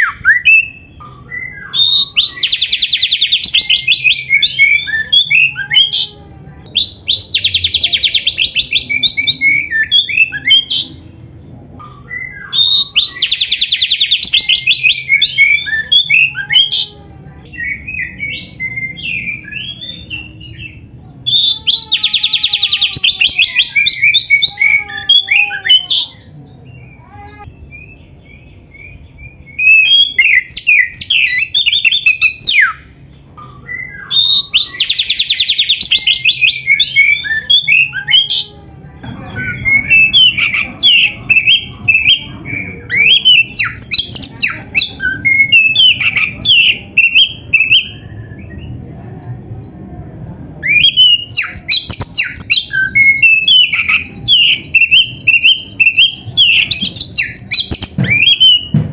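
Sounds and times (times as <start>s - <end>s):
songbird whistles and trills: 0.0s - 6.1s, 6.7s - 11.0s, 11.8s - 16.9s, 17.5s - 38.5s, 39.3s - 48.7s, 50.6s - 58.8s.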